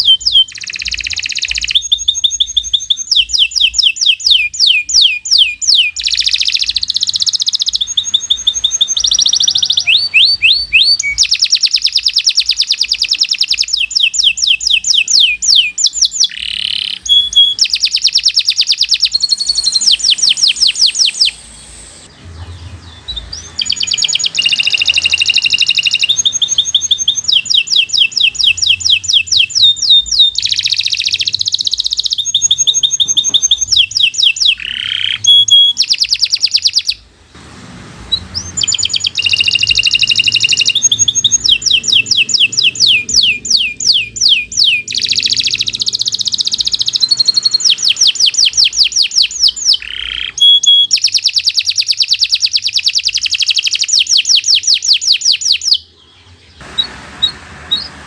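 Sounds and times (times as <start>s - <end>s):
canary singing trills: 0.0s - 37.1s, 38.0s - 58.0s.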